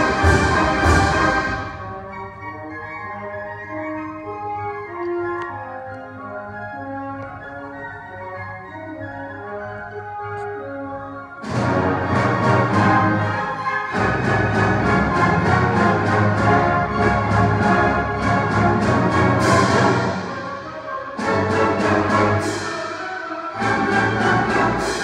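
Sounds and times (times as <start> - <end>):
orchestra playing classical music: 0.0 - 25.0.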